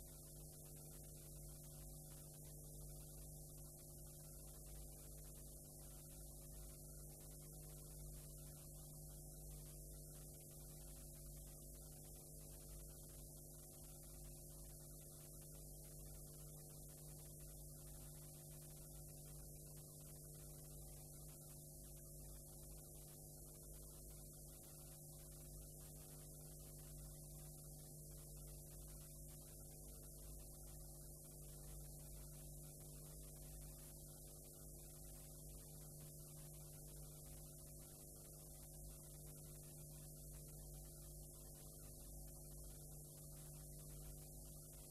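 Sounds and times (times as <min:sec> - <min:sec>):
faint electrical hum: 0:00.0 - 0:44.9
tape hiss: 0:00.0 - 0:44.9.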